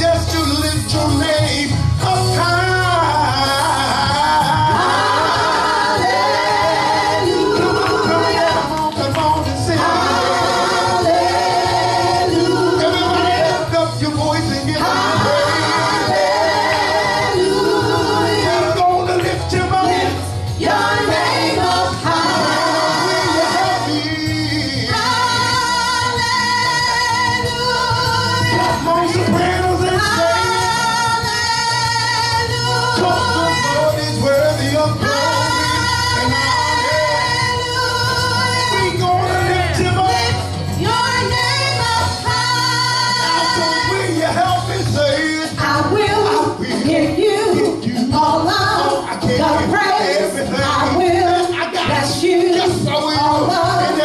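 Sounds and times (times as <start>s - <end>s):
group singing a worship song: 0.0s - 54.0s
instrumental accompaniment: 0.0s - 54.0s.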